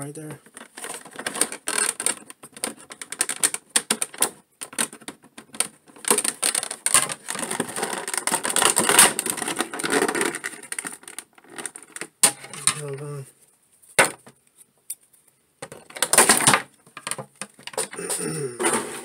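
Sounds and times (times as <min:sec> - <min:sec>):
stiff plastic crackling: 0:00.4 - 0:13.2, 0:15.6 - 0:19.0.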